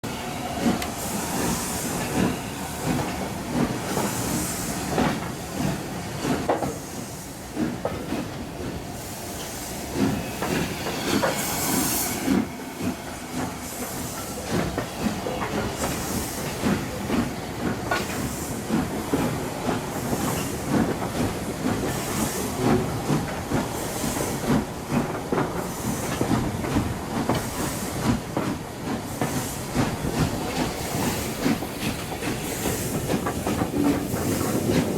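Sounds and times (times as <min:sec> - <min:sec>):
steam hissing: 0:00.2 - 0:34.9
train wheels clattering: 0:00.6 - 0:34.9.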